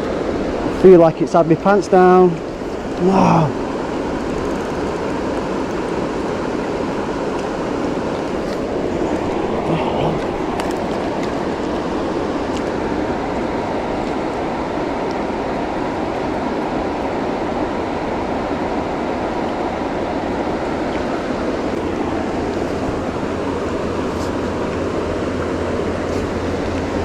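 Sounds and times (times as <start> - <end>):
river water rushing: 1.5 - 27.0.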